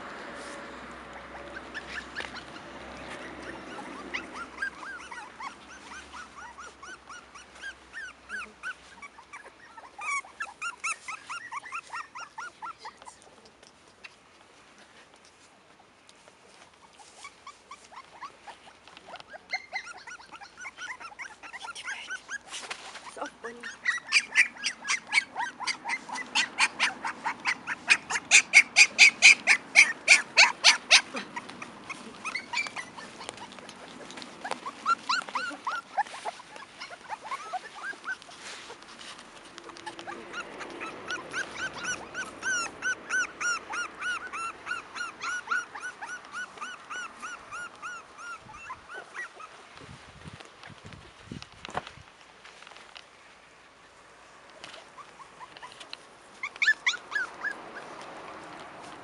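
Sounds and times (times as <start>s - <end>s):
puppies yipping and whining: 0.0s - 13.4s, 16.2s - 50.9s, 53.7s - 59.0s.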